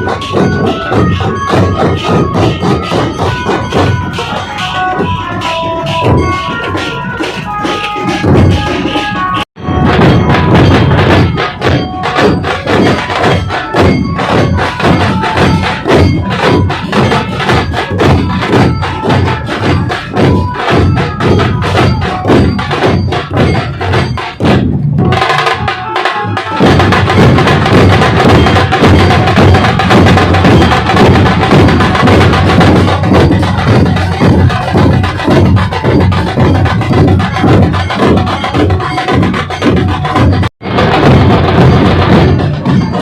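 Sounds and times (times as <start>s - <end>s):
drum troupe playing fast rhythm: 0.0s - 43.0s.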